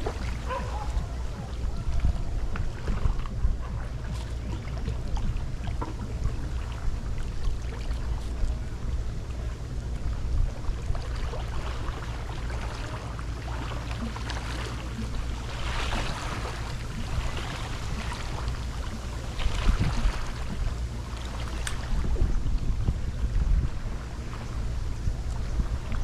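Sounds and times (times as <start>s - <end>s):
small water splashes: 0.0s - 22.4s
choppy river water: 0.0s - 26.0s
wind rumbling on microphone: 0.0s - 26.0s.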